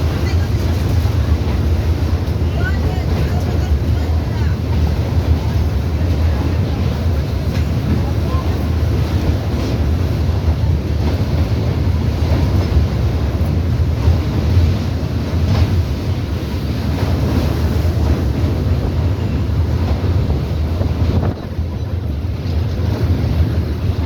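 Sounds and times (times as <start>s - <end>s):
train rumbling at speed: 0.0s - 24.0s
wind buffeting microphone: 0.0s - 24.0s.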